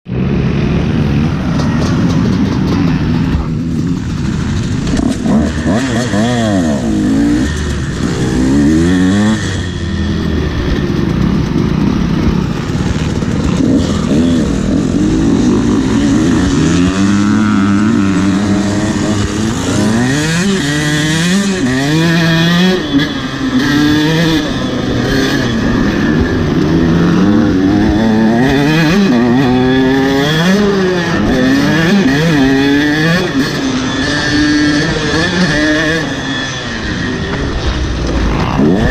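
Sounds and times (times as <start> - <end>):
dirt bike engine revving: 0.1 - 38.9.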